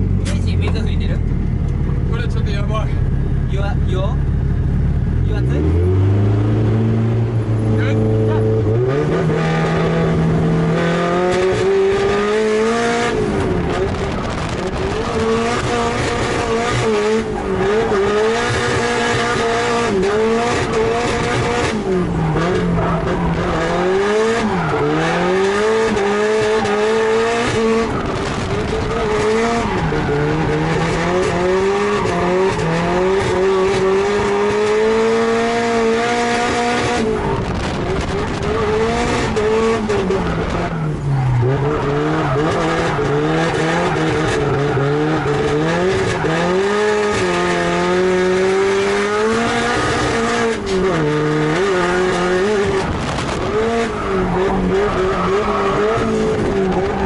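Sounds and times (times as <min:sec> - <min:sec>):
car engine revving high: 0:00.0 - 0:57.0.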